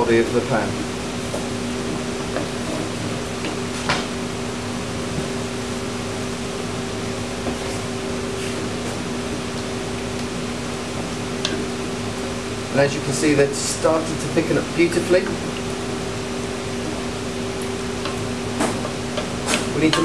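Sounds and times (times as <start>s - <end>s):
ventilation fan humming: 0.0s - 20.0s.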